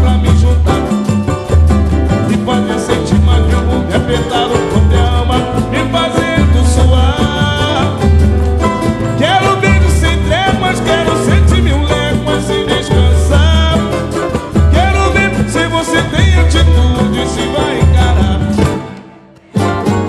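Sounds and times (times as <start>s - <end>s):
deep drum beat: 0.0s - 19.0s
samba band playing: 0.0s - 20.0s.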